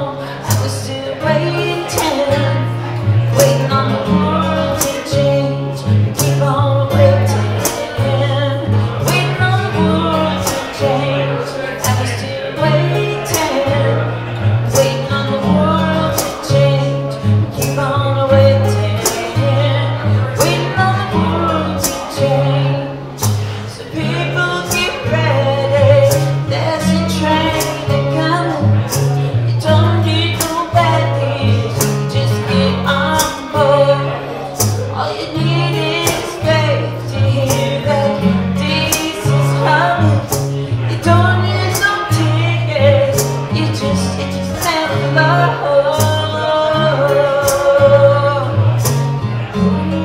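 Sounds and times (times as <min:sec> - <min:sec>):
acoustic guitar strummed: 0:00.0 - 0:50.0
woman singing: 0:00.0 - 0:50.0.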